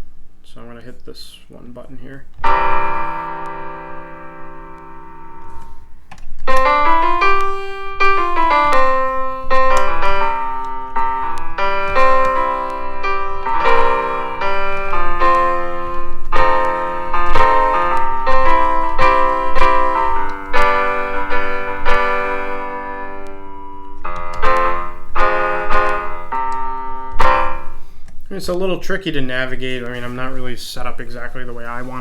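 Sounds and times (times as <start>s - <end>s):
piano melody and chords: 2.4s - 28.8s.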